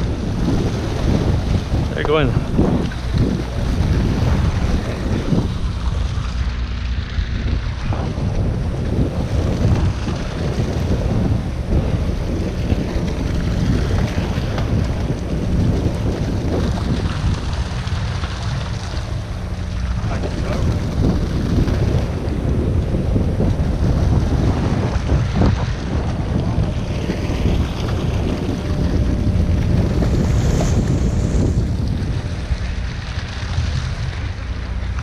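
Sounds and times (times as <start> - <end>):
low steady hum: 0.0 - 35.0
water washing against hull: 0.0 - 35.0
wind buffeting microphone: 0.0 - 35.0.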